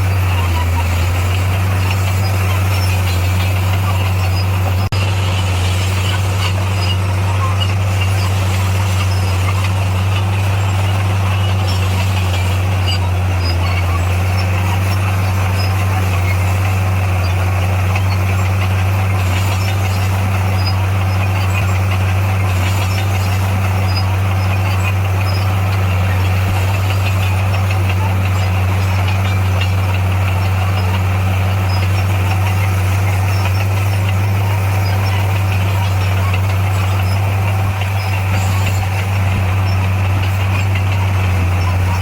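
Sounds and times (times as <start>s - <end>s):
bulldozer diesel engine droning: 0.0s - 42.0s.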